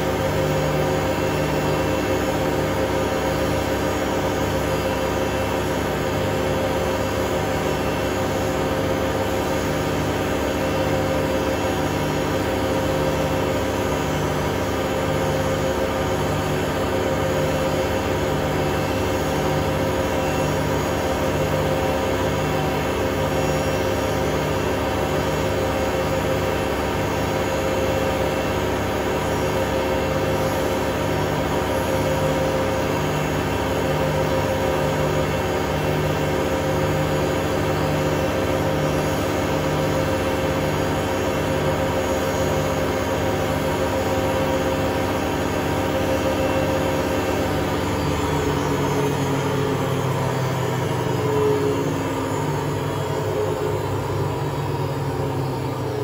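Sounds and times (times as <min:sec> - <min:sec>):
motor whine: 0:00.0 - 0:56.0
washing machine spinning: 0:00.0 - 0:56.0.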